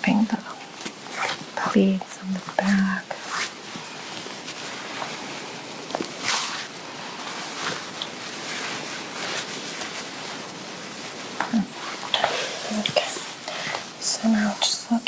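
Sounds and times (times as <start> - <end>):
fabric rustling: 0.0 - 15.0.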